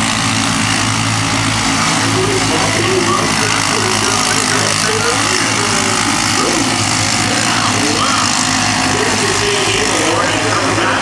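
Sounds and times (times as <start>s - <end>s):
toy race truck engines revving: 1.6s - 11.0s.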